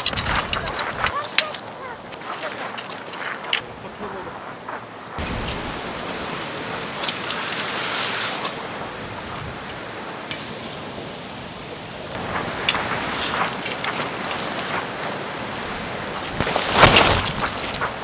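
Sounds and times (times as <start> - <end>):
clicks and rattles: 0.0 - 10.3, 12.2 - 18.0
strong wind gusting across microphone: 0.0 - 10.3, 12.2 - 18.0.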